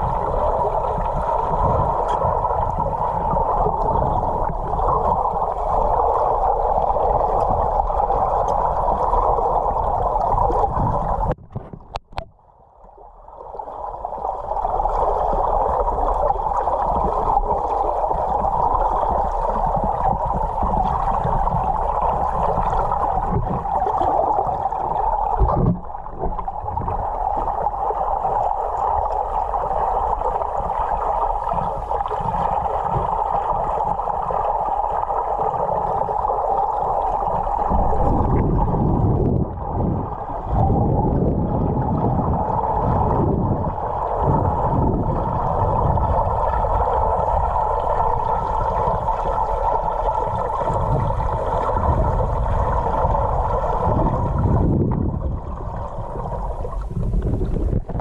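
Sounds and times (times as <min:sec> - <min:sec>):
rushing gurgling water: 0:00.0 - 0:58.0.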